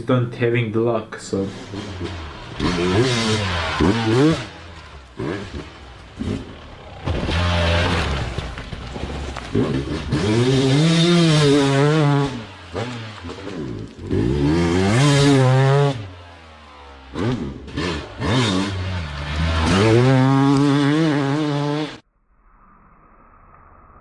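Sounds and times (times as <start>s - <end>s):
dirt bike engine revving: 1.3s - 22.0s.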